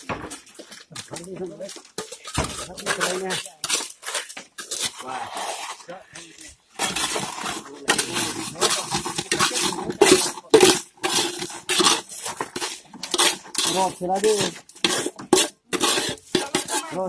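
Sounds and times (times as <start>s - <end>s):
gritty slide of concrete: 0.3s - 17.0s
trowel scraping metal pan: 2.0s - 17.0s.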